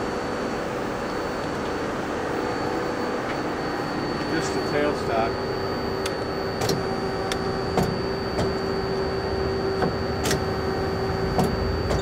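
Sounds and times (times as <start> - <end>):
faint high whine: 0.0 - 12.0
machine hum: 0.0 - 12.0.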